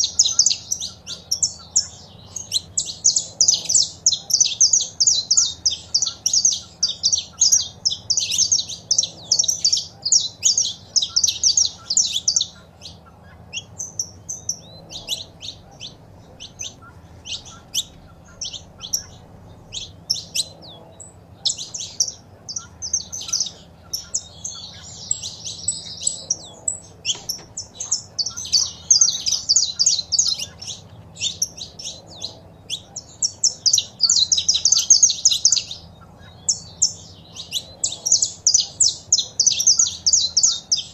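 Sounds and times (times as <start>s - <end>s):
finches chirping and singing: 0.0s - 40.9s.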